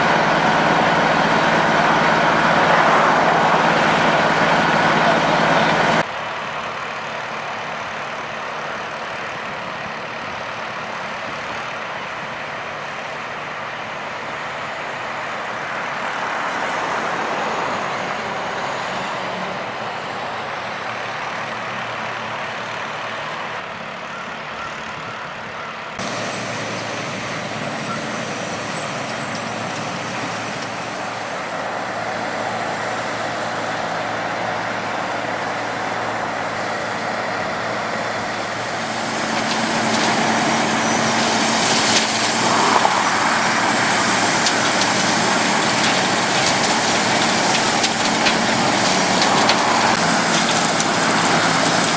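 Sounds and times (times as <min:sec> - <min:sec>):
milling machine grinding asphalt: 0:00.0 - 0:06.1, 0:09.3 - 0:23.6, 0:26.0 - 0:51.9
trucks working: 0:00.0 - 0:51.9.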